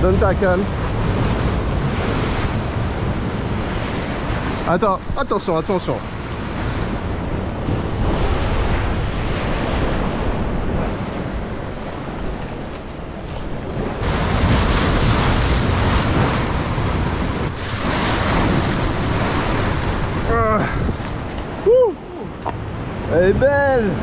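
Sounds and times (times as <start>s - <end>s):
surf breaking over rocks: 0.0s - 24.0s
wind buffeting microphone: 0.0s - 24.0s.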